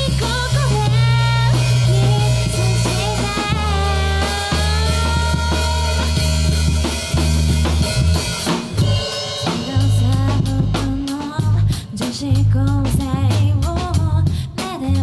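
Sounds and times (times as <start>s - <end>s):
rock band playing: 0.0s - 12.3s
drum kit beating: 0.0s - 15.0s.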